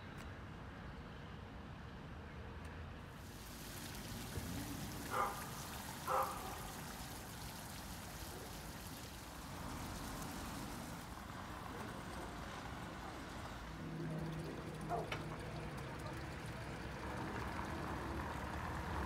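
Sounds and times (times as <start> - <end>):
water splashing onto pavement: 3.2 - 19.0.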